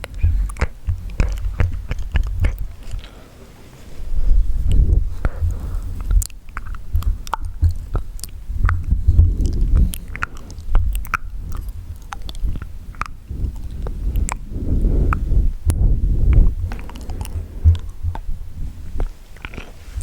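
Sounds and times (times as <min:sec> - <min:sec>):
low thudding rumble: 0:00.0 - 0:03.0, 0:04.1 - 0:19.1
tongue and lip clicks: 0:00.0 - 0:03.1, 0:04.6 - 0:20.0.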